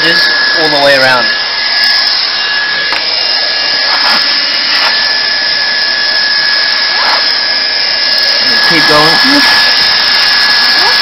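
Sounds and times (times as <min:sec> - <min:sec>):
hot-air welder blowing and whining: 0:00.0 - 0:11.0.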